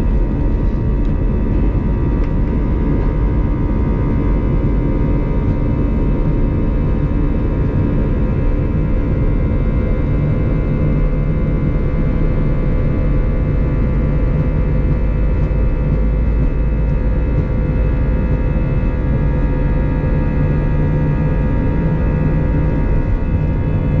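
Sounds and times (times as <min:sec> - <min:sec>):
airliner cabin engine rumble: 0:00.0 - 0:24.0
steady whining tones: 0:00.0 - 0:24.0.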